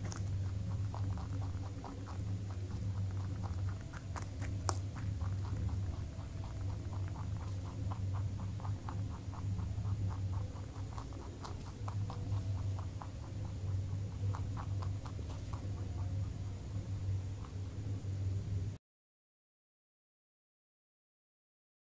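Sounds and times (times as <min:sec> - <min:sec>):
rabbit crunching carrot: 0:00.0 - 0:18.6
steady low hum: 0:00.0 - 0:18.8.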